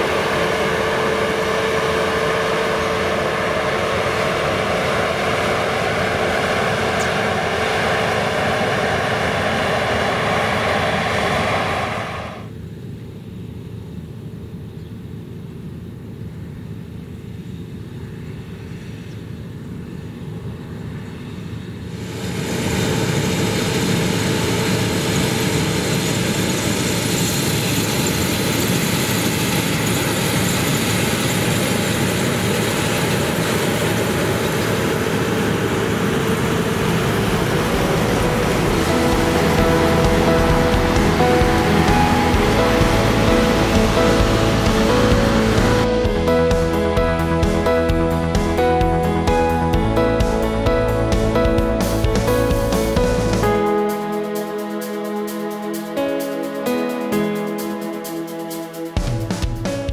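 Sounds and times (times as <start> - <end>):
combine harvester drone and whine: 0.0 - 59.6.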